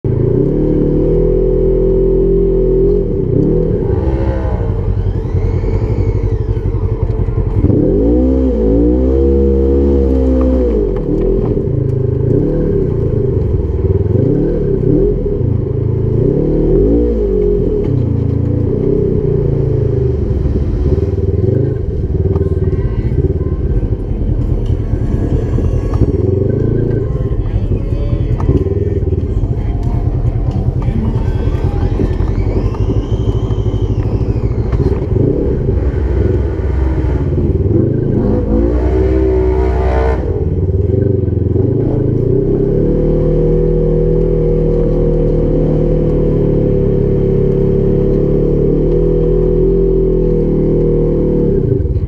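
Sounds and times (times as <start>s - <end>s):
utility vehicle engine revving: 0.0s - 52.0s.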